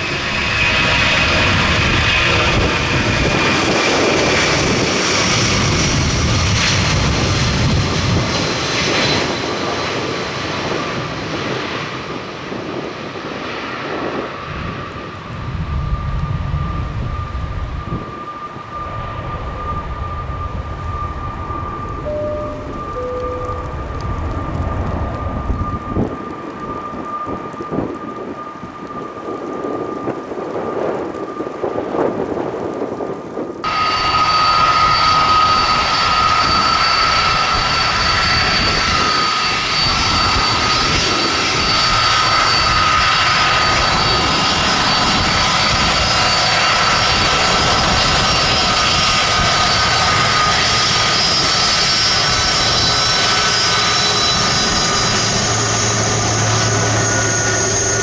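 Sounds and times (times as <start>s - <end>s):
jet engines whining: 0.0s - 12.8s, 13.4s - 30.1s, 33.6s - 58.0s.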